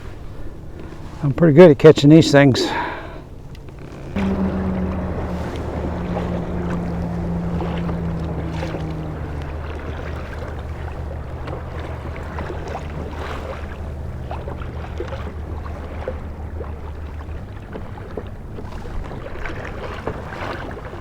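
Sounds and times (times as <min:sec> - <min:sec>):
water splashing against kayak hull: 0:02.7 - 0:21.0
electric trolling motor humming: 0:03.2 - 0:21.0.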